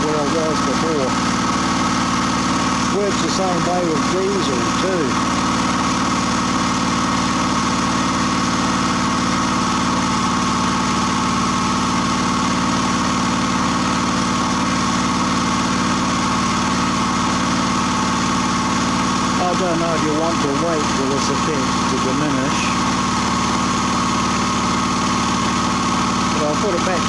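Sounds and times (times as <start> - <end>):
small engine running: 0.0 - 27.0
steady whine: 0.0 - 27.0.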